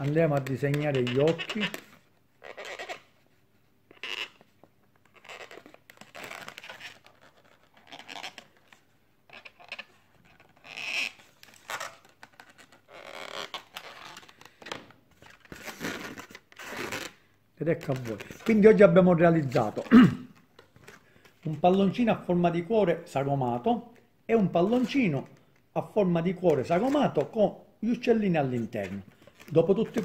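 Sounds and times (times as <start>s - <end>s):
balloons squeaking: 0.0s - 30.0s.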